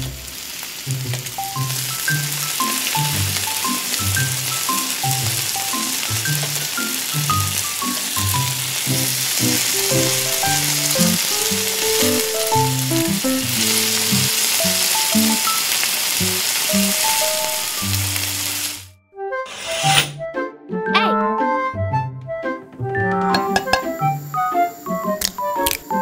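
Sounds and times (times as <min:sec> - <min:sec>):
bacon sizzling in hot oil: 0:00.0 - 0:18.9, 0:23.4 - 0:26.0.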